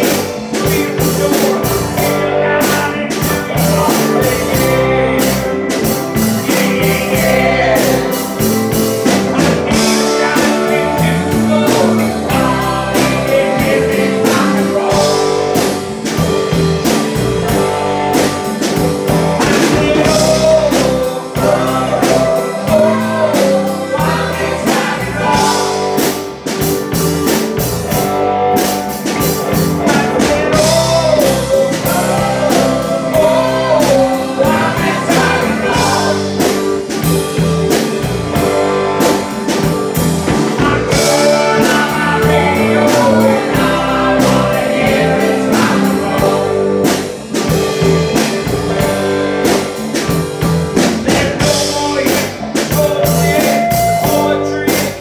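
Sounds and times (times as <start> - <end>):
rock and roll song: 0.0 - 55.0.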